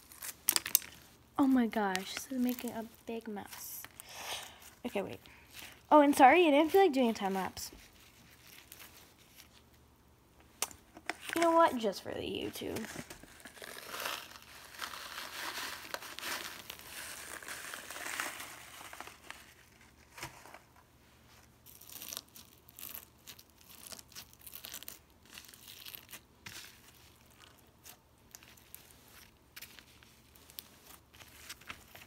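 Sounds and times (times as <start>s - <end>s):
slime with pebbles crackling: 0.0s - 9.7s, 10.5s - 20.8s, 21.4s - 32.0s.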